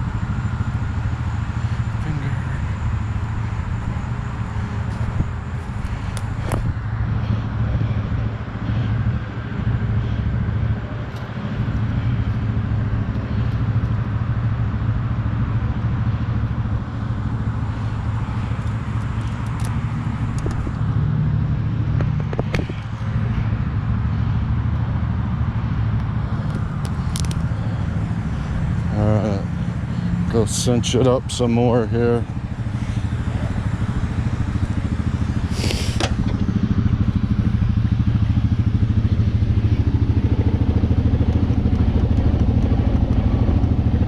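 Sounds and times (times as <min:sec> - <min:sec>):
quad engine idling: 0:00.0 - 0:44.0.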